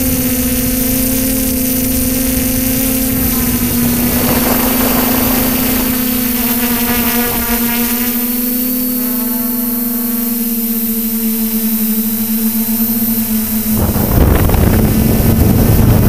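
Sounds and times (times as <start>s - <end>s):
wind rushing over microphone: 0.0s - 10.2s, 13.1s - 16.0s
drone motors humming: 0.0s - 16.0s.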